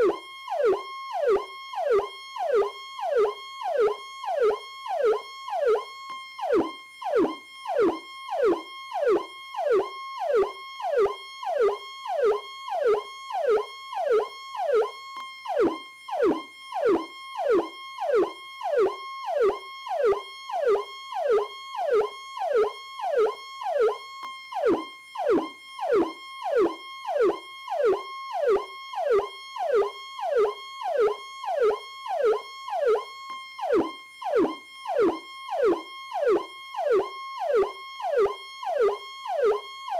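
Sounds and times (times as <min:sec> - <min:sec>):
electronic police siren: 0:00.0 - 0:39.9.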